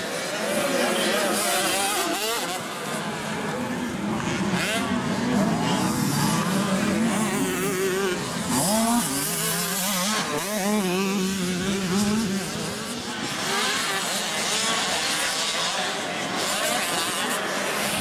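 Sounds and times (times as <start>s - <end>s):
motocross bikes revving: 0.0s - 18.0s.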